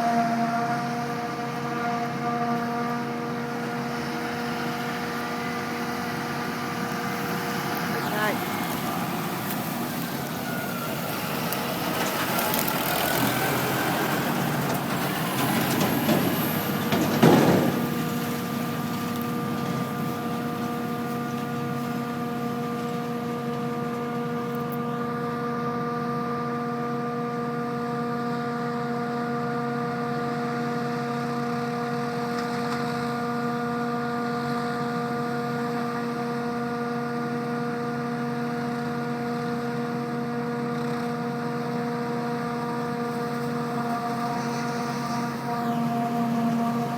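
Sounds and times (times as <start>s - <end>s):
farm machinery engines droning: 0.0s - 46.9s.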